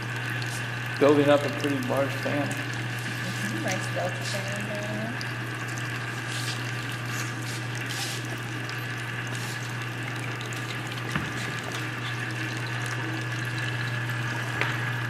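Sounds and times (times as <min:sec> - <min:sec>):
constant low hum: 0:00.0 - 0:15.0
water running: 0:00.0 - 0:15.0.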